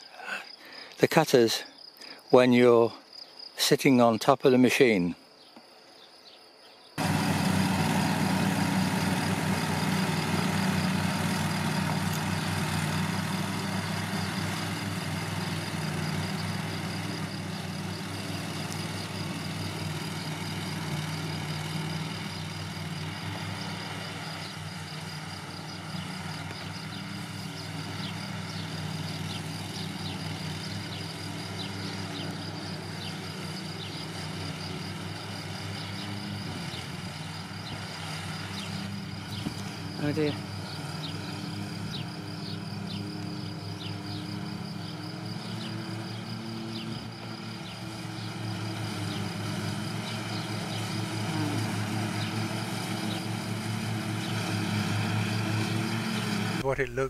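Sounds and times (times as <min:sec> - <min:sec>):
ride-on mower engine running: 0:07.0 - 0:56.7.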